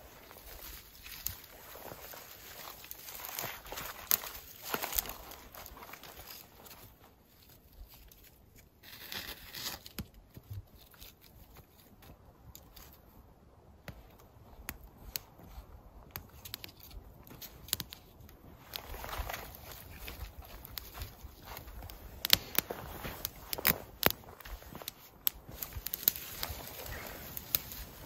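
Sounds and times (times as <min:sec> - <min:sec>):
fire crackling and popping: 0:00.0 - 0:11.3, 0:12.0 - 0:28.0
dry twigs rustling and snapping: 0:00.0 - 0:13.2, 0:13.8 - 0:28.0.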